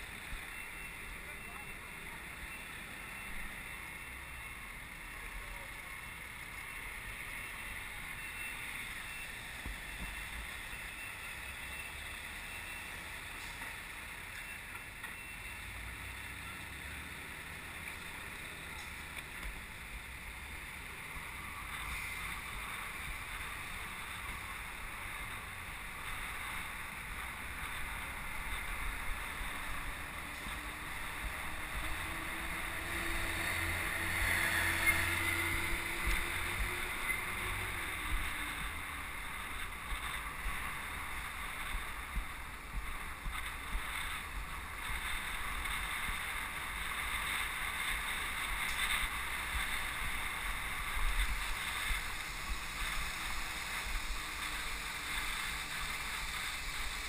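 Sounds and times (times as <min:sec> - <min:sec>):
wind and road rush: 0:00.0 - 0:57.0.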